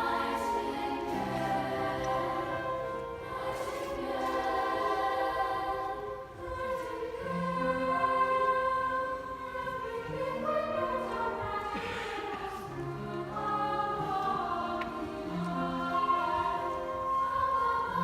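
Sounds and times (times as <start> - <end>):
choir singing unaccompanied: 0.0 - 18.0.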